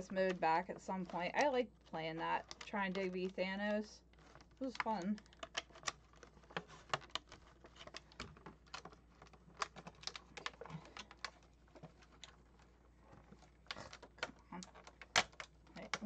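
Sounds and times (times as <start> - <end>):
plastic blister tray crackling: 0.0 - 16.0.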